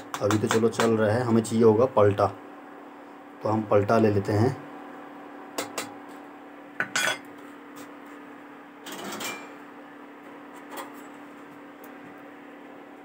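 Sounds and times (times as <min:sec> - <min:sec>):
induction cooktop hum: 0:00.0 - 0:13.0.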